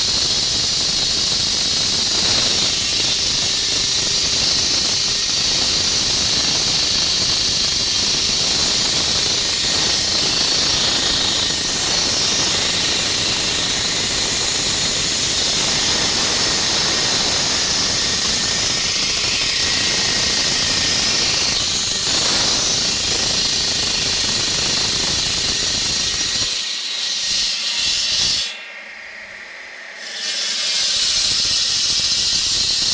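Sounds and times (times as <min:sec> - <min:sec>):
concrete saw grinding: 0:00.0 - 0:32.9.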